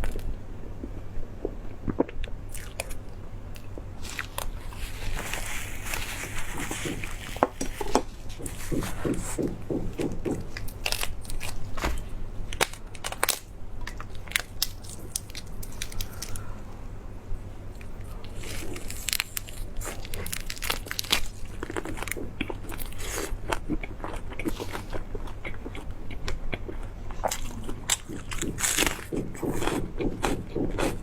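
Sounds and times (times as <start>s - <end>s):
steady low hum: 0.0s - 31.0s
person chewing food: 0.8s - 16.6s, 17.7s - 31.0s.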